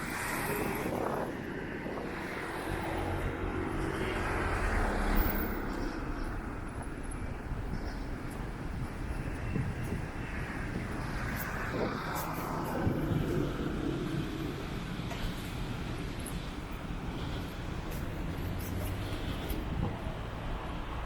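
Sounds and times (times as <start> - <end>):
rumble of road traffic: 0.0 - 21.0.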